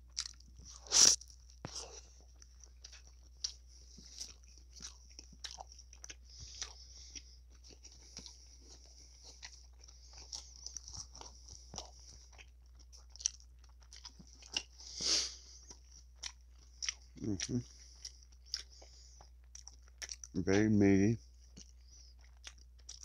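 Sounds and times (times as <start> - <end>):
close chewing with mouth clicks: 0.0 - 23.0.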